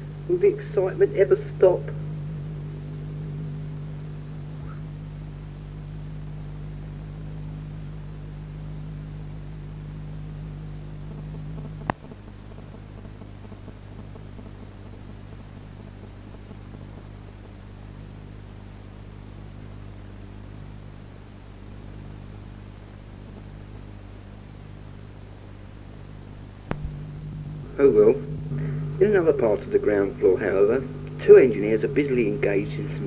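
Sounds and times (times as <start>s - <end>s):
mains hum and hiss: 0.0s - 33.0s.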